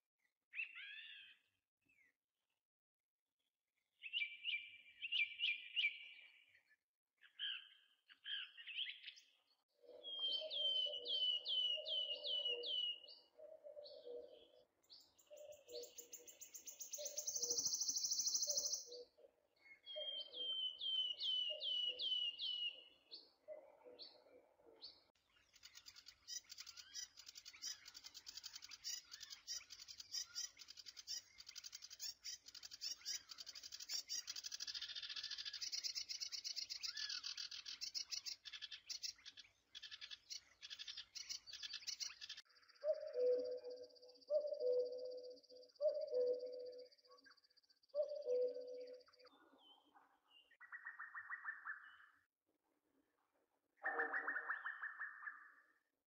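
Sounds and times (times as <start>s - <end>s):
birds chirping: 4.0s - 52.3s.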